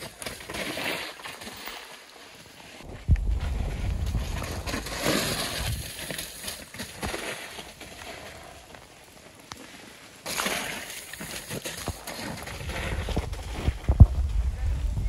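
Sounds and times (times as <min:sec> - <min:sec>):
bike tyres hissing on wet dirt: 0:02.1 - 0:14.9.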